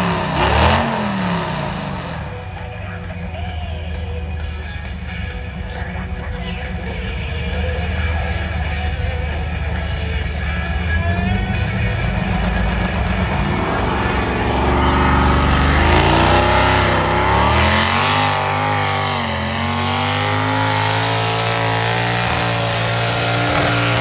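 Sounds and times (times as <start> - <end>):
tractor engine revving: 0.0 - 24.0.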